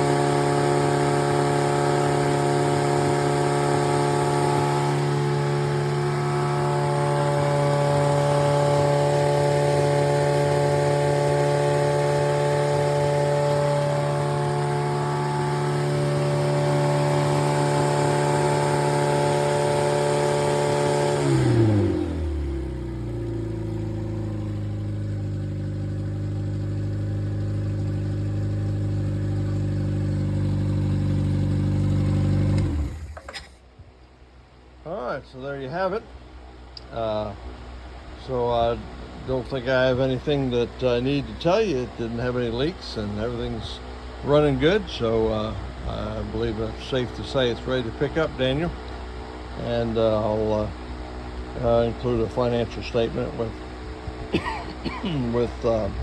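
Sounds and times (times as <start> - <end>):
car engine running: 0.0 - 33.4, 35.8 - 56.0.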